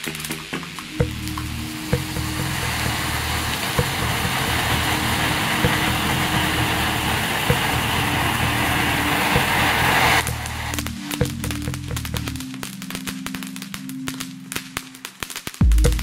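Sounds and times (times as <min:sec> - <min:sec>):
background music: 0:00.0 - 0:16.0
firework fountain hissing: 0:00.0 - 0:16.0.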